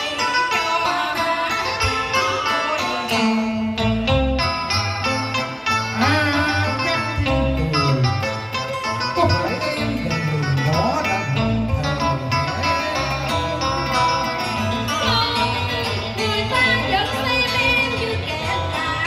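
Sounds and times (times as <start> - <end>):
plucked string band music: 0.0 - 19.0.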